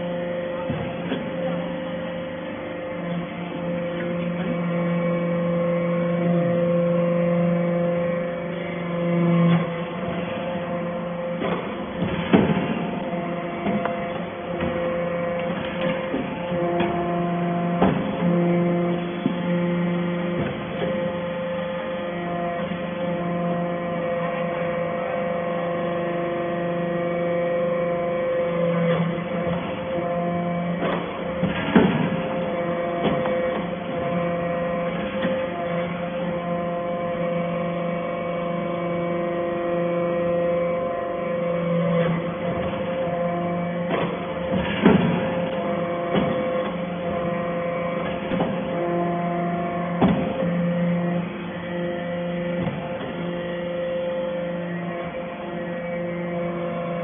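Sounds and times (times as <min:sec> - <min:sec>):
baler motor and pump hum: 0:00.0 - 0:57.0.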